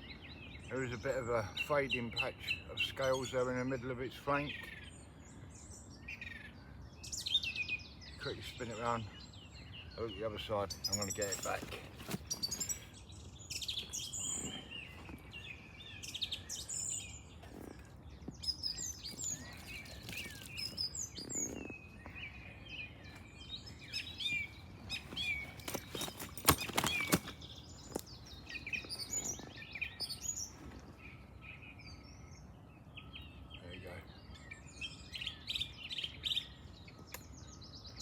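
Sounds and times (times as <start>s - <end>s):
songbirds chirping and singing: 0.0s - 38.0s.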